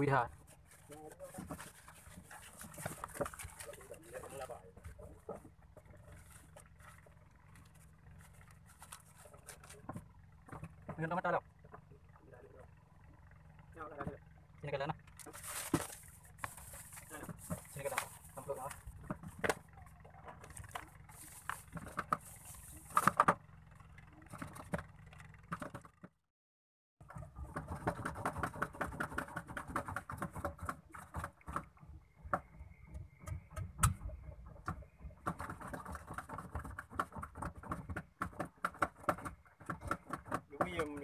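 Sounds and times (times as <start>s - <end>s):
small boat engine running: 0.0s - 26.3s, 27.0s - 41.0s.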